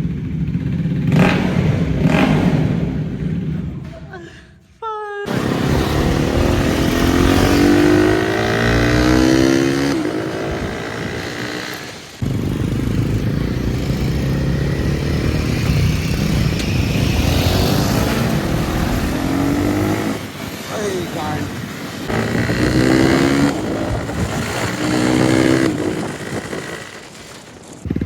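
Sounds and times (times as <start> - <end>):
motorcycle engine revving: 0.0 - 3.8, 5.3 - 28.0.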